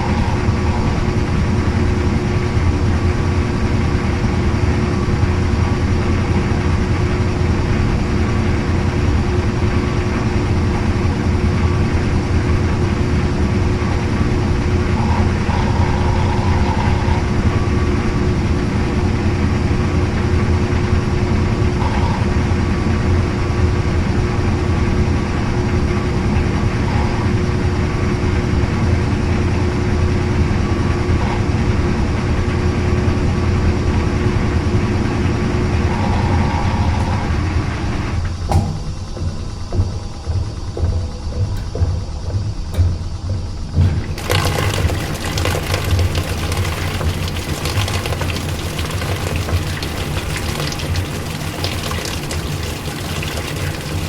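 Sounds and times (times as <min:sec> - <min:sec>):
constant tone: 0:00.0 - 0:54.0
washing machine motor hum: 0:00.0 - 0:54.0.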